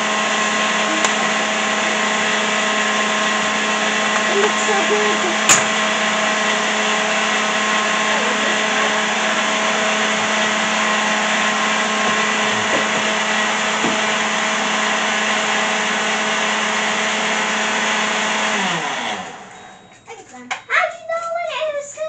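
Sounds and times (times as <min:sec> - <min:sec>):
blender motor whirring: 0:00.0 - 0:19.9.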